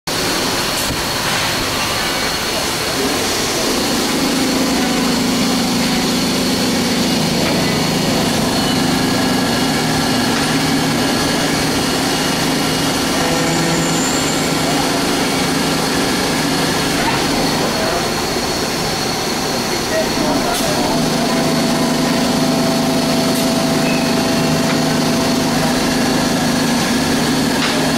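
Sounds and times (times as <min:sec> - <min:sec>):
lathe mechanical hum: 0:00.1 - 0:27.9
high-pitched whine: 0:00.4 - 0:26.6.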